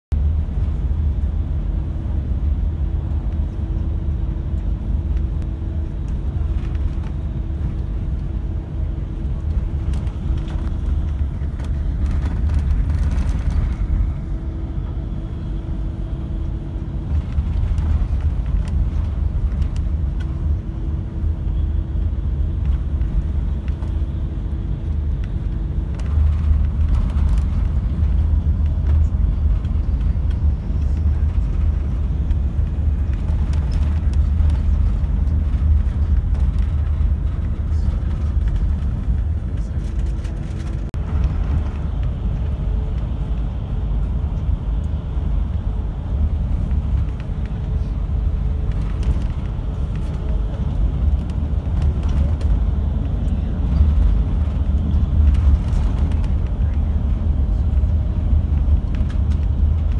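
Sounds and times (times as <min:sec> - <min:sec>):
car road rumble: 0:00.1 - 0:59.9.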